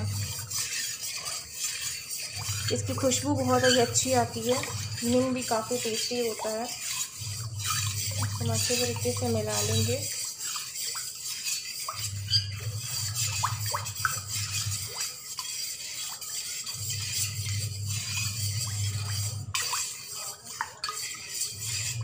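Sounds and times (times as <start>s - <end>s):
spoon stirring in steel bowl: 0.0s - 22.0s
swishing water: 0.0s - 22.0s.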